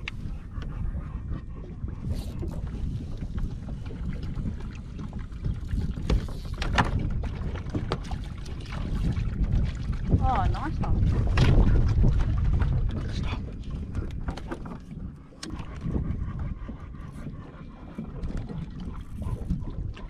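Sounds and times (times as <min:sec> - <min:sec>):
water slapping boat hull: 0:00.0 - 0:20.0
wind buffeting microphone: 0:00.0 - 0:20.0.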